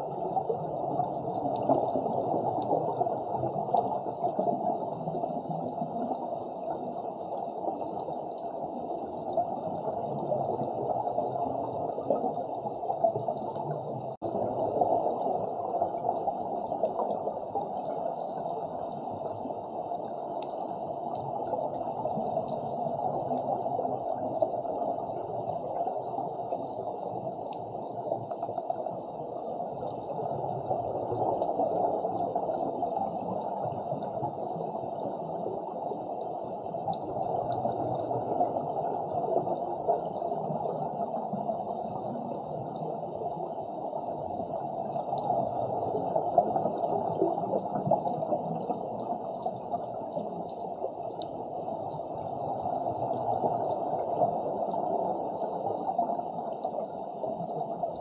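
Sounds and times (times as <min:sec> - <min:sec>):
underwater bubbles rushing: 0:00.0 - 0:58.0.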